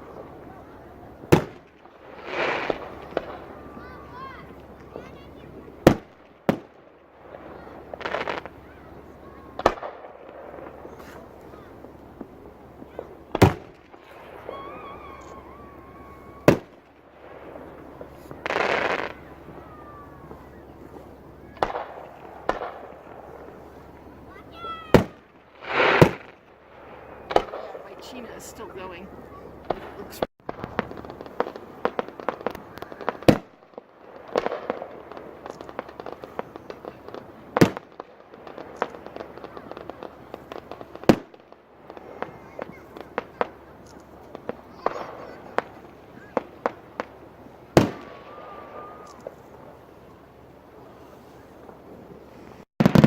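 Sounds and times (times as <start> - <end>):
firework hissing burst: 0.0 - 50.0
firework bangs: 0.0 - 53.0
firework whistling: 0.0 - 53.0.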